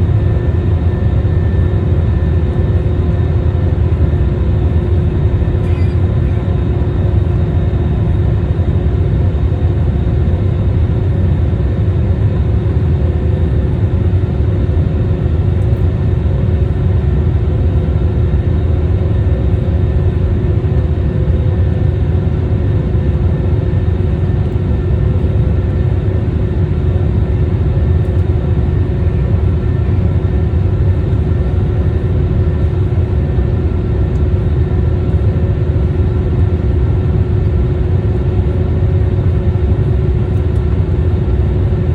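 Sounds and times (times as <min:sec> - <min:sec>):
jet engines in airliner cabin: 0:00.0 - 0:41.9.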